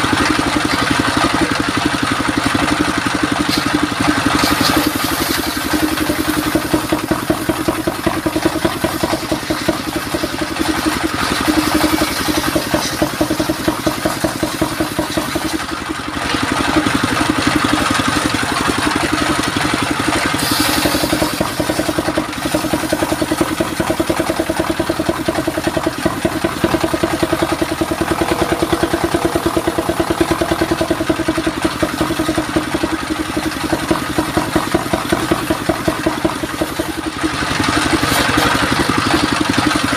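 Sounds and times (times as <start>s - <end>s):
saw bench engine droning: 0.0s - 39.9s
saw blade cutting wood: 2.4s - 39.9s.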